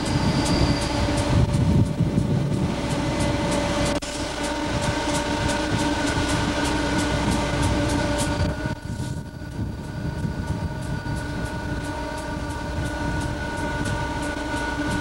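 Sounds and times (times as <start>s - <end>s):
locomotive whine: 0.0s - 15.0s
train wheels rumbling: 0.0s - 15.0s.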